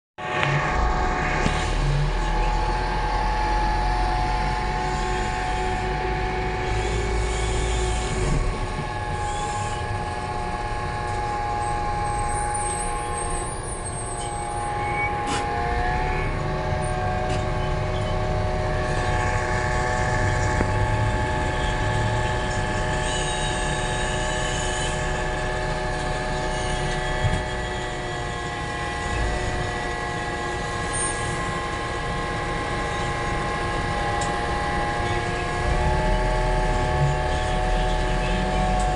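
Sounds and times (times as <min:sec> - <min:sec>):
minibus engine droning hum: 0:00.2 - 0:38.9.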